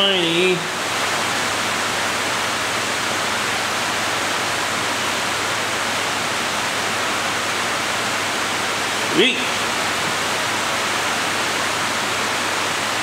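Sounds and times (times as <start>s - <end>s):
electric fans blowing air: 0.0s - 13.0s.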